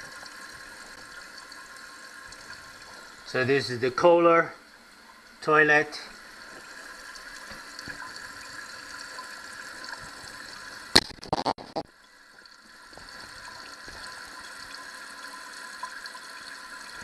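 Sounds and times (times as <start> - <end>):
toilet fill valve hissing: 0.0 - 11.0, 12.1 - 17.0.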